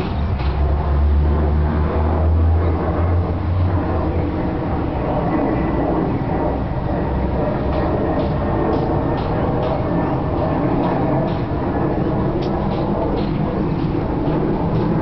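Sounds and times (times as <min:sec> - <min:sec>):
jet engines rumbling overhead: 0:00.0 - 0:15.0.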